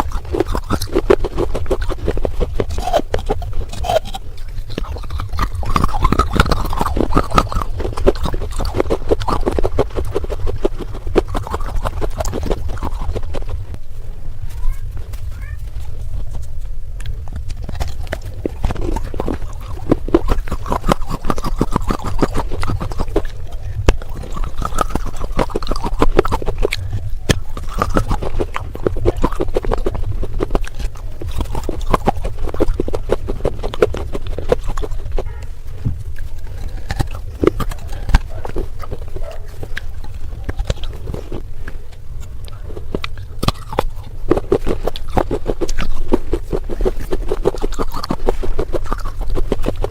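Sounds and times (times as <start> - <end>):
clay pieces crunching: 0.0 - 13.8, 14.5 - 49.9.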